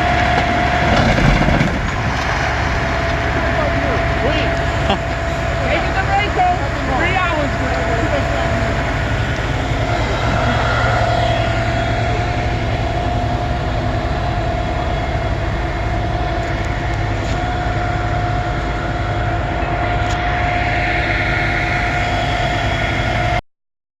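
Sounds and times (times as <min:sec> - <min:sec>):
heavy vehicle engine rumbling: 0:00.0 - 0:23.4
high whine: 0:00.0 - 0:23.4.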